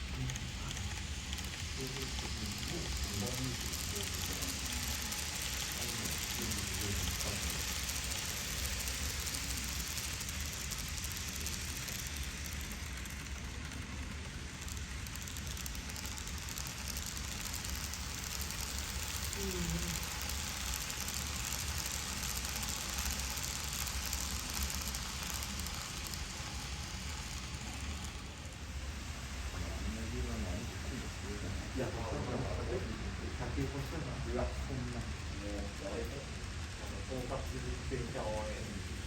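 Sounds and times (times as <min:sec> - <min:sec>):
low room hum: 0:00.0 - 0:39.0
model trains running: 0:00.0 - 0:39.0.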